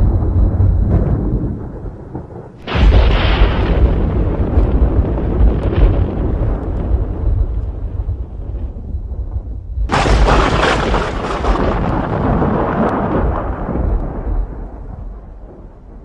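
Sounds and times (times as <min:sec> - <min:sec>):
sharp thunderclap crackling: 0:00.0 - 0:16.0
thunder rumbling: 0:00.0 - 0:16.0.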